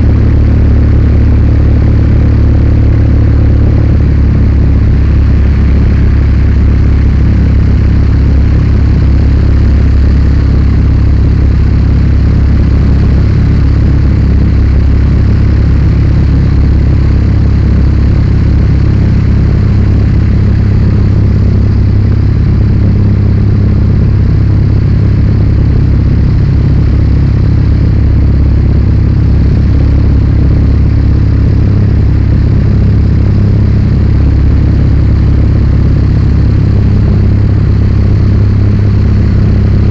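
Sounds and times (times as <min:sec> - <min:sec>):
airplane engine drone: 0:00.0 - 0:39.9
rushing air: 0:00.0 - 0:39.9.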